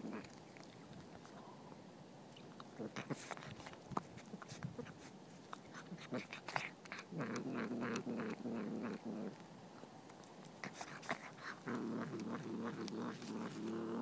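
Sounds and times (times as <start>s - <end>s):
cat chewing and crunching: 0.0s - 1.8s, 2.4s - 14.0s.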